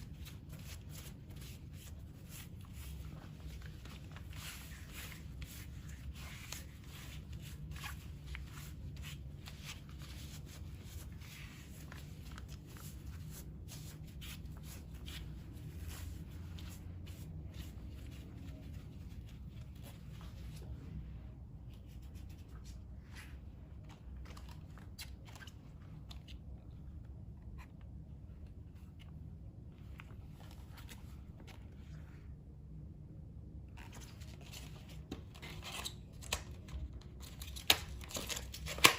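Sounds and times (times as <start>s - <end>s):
rustling and crinkling handling: 0.0s - 32.2s.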